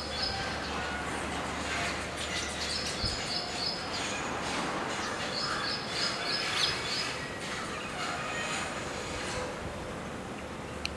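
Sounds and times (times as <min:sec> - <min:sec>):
steady background hiss: 0:00.0 - 0:10.9.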